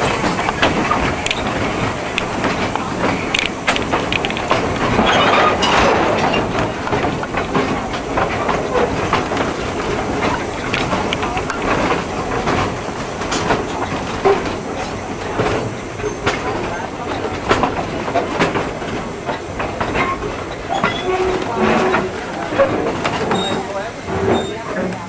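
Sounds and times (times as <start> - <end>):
train rumble and rattle: 0.0 - 25.0
train wheels clicking over rail joints: 0.0 - 25.0.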